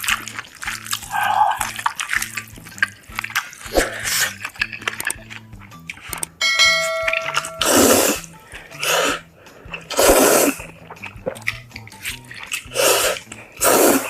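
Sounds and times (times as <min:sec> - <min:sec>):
hissy noodle slurps: 0:00.0 - 0:06.0, 0:07.3 - 0:14.0
quiet background music: 0:00.0 - 0:14.0.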